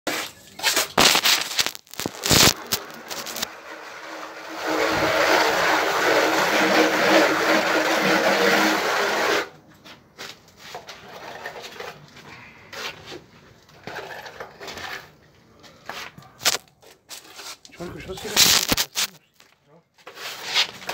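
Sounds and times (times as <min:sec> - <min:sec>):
trowels scraping and knocking: 0:00.1 - 0:15.2, 0:15.8 - 0:19.2, 0:20.0 - 0:20.9.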